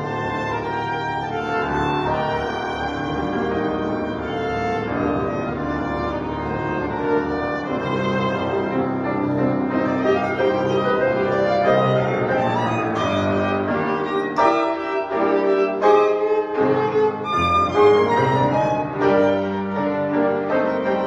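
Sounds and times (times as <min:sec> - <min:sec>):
piano accompaniment: 0:00.0 - 0:21.0
violin melody: 0:00.0 - 0:21.0.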